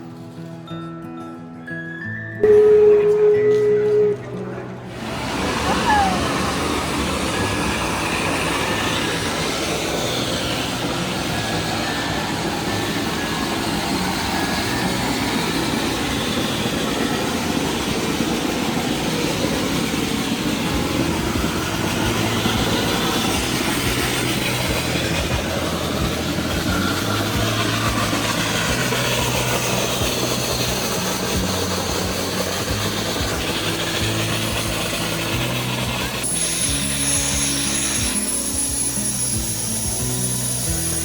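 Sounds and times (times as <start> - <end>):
mechanical running noise: 5.0 - 41.0.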